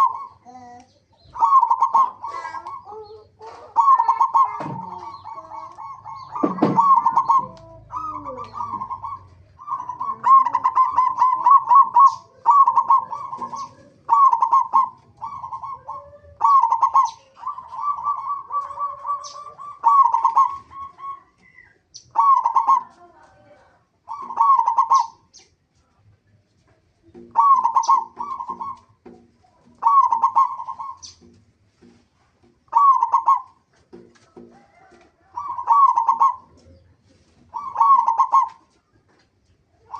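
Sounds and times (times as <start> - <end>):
dove cooing: 0.0 - 25.3, 27.0 - 31.9, 32.5 - 39.1, 39.7 - 39.9.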